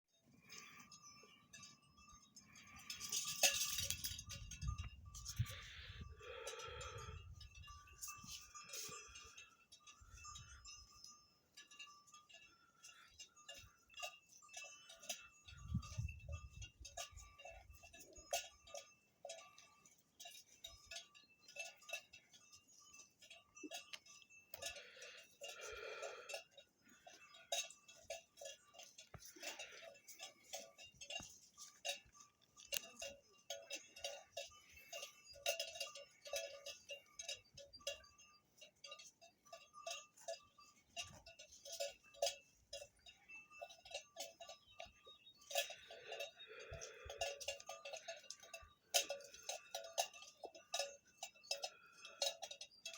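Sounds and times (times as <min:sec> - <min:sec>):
livestock bells clanking: 0:00.1 - 0:52.9.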